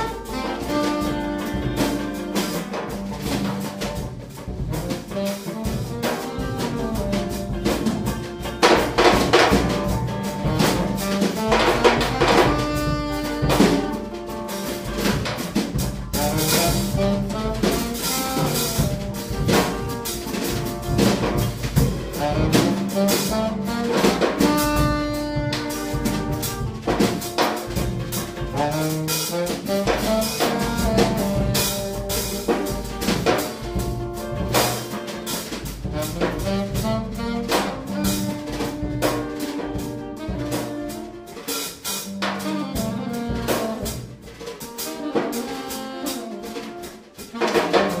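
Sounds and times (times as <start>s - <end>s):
drum kit playing: 0.0s - 48.0s
saxophone notes: 0.0s - 48.0s.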